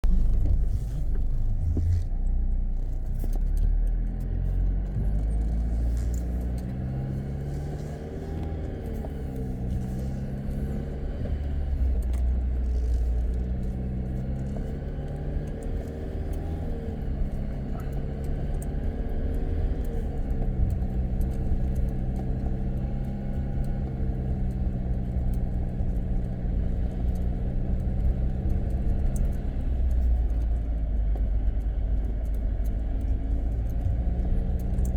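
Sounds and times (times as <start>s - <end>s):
car engine under load: 0.0s - 34.9s.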